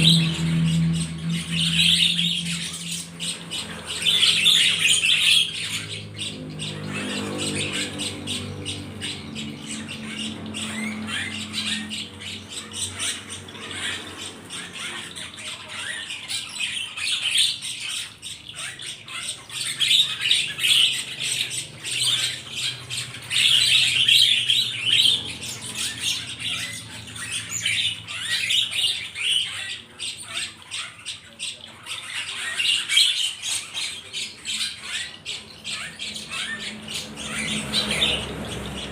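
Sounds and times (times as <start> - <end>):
small birds squawking and chirping: 0.0 - 38.9.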